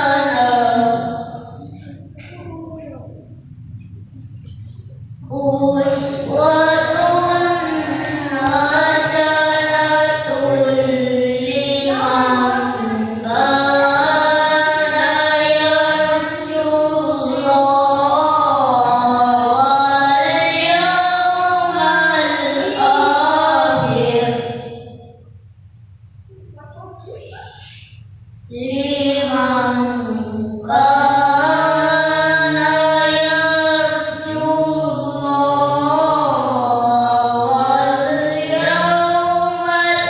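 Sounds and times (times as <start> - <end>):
child chanting melodic recitation: 0.0 - 3.3, 4.2 - 25.2, 28.5 - 40.0.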